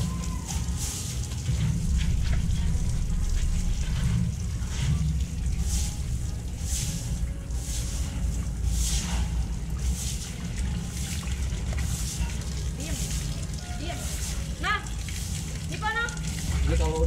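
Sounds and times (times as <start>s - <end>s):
hose water splashing: 0.0s - 17.0s.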